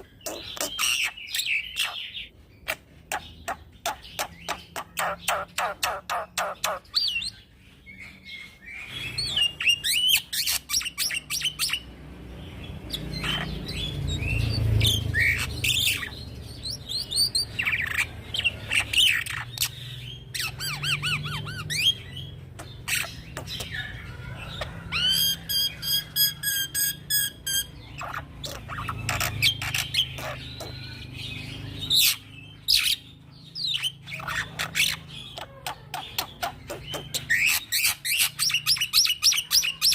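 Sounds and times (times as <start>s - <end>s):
bird chirping and whistling: 0.0s - 7.4s, 8.3s - 11.9s, 12.8s - 33.0s, 33.6s - 39.9s.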